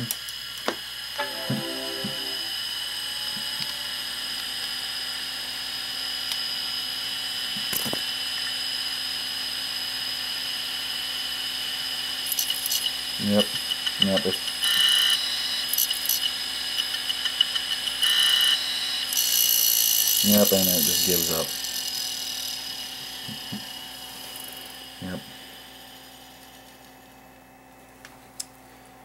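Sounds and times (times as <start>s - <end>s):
hard drive spindle whine: 0.6s - 27.5s.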